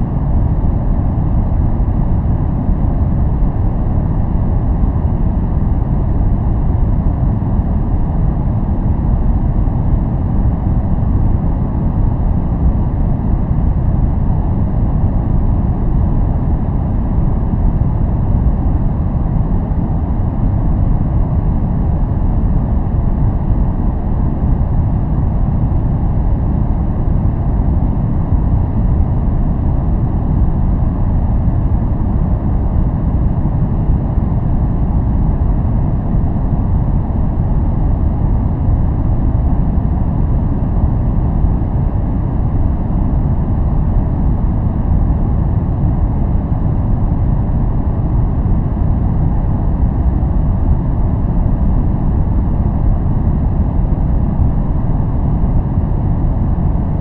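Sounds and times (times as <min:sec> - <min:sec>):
deep low white noise: 0:00.0 - 0:57.0.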